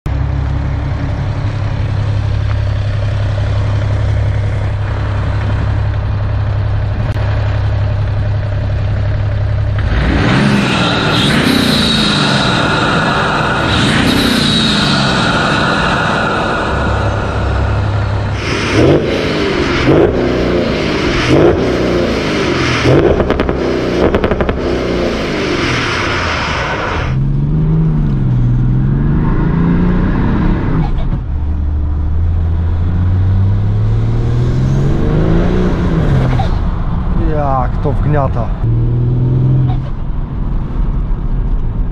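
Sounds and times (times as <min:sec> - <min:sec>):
diesel engine revving through gears: 0:00.1 - 0:37.2, 0:37.8 - 0:40.7.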